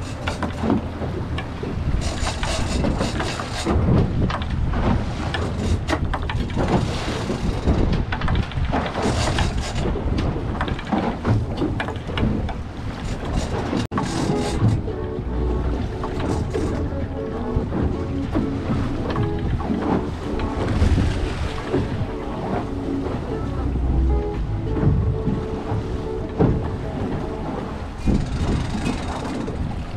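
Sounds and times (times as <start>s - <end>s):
knocks and clicks: 0.0s - 29.9s
water splashing against boat hull: 0.0s - 29.9s
wind buffeting microphone: 0.0s - 29.9s.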